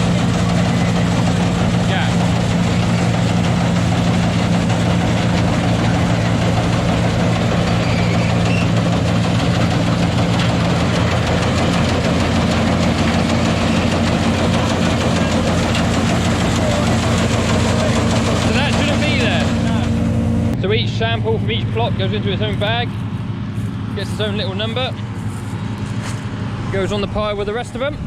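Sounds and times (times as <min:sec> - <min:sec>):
combine harvester engine humming: 0:00.0 - 0:28.0.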